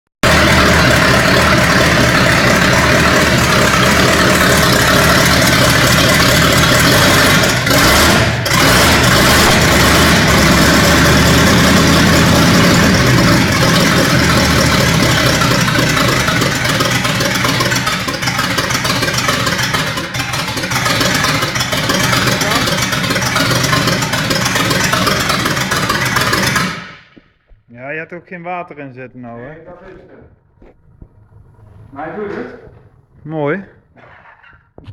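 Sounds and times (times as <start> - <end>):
car engine running: 0.2 - 27.2, 29.4 - 34.9.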